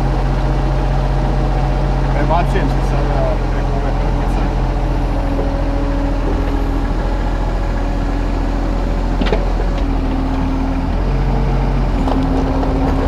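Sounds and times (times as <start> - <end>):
excavator diesel engine: 0.0 - 13.0
hydraulic whine: 0.0 - 13.0.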